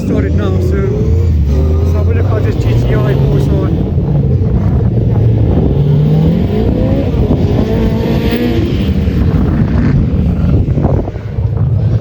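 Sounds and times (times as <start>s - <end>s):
rally car engines revving: 0.0s - 12.0s.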